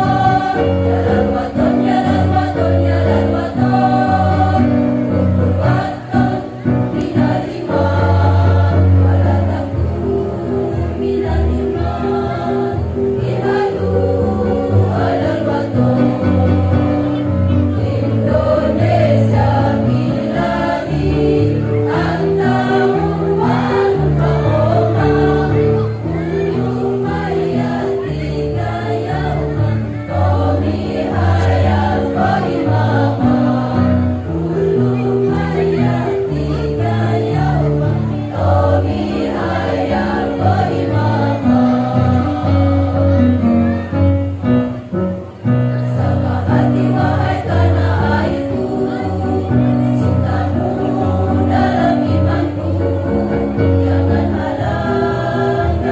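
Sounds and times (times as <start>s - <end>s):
women's choir singing: 0.0s - 44.7s, 45.4s - 55.9s.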